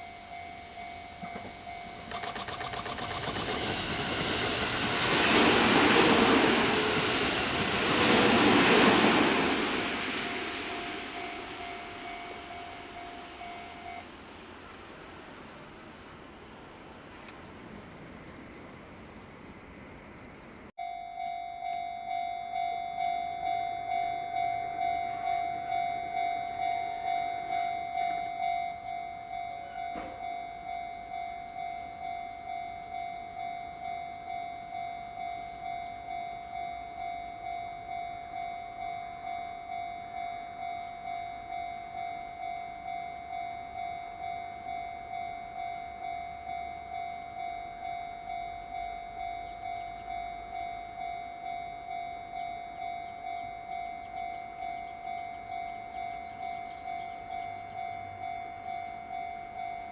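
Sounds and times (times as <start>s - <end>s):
level-crossing warning bell: 0.0s - 17.3s, 20.8s - 59.9s
electric train passing: 0.0s - 59.9s.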